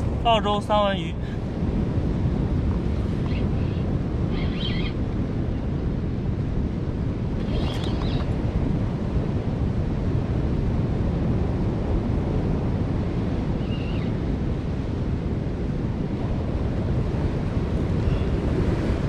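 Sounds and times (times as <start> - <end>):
sea surf: 0.0 - 19.0
wind noise on microphone: 0.0 - 19.0.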